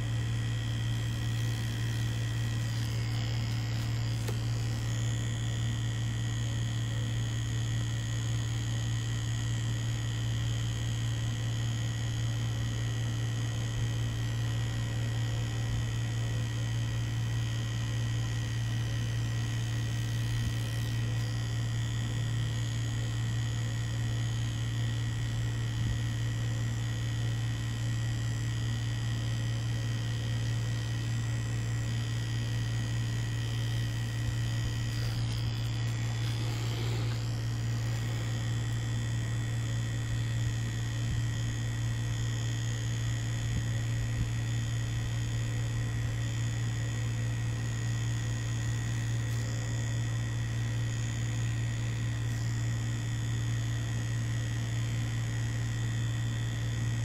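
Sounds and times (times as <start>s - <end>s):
tattoo machine buzzing: 0.0s - 57.0s.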